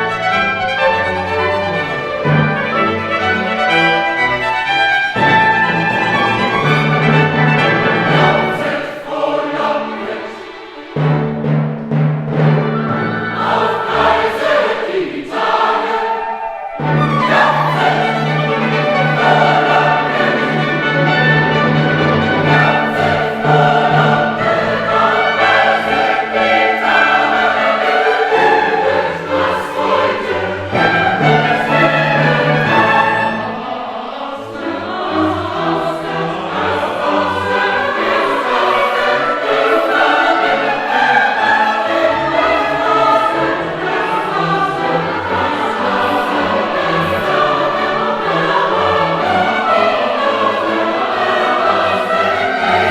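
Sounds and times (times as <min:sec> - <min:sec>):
choir singing with accompaniment: 0:00.0 - 0:52.9.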